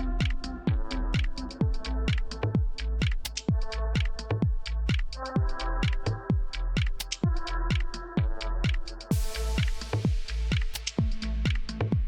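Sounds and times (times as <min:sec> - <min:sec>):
electronic dance music: 0:00.0 - 0:12.0
kick drum: 0:00.0 - 0:12.0
hi-hat ticks: 0:00.2 - 0:12.0.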